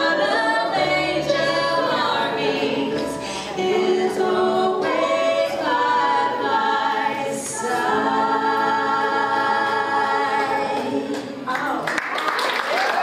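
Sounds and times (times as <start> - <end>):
voices singing worship song: 0.0 - 11.5.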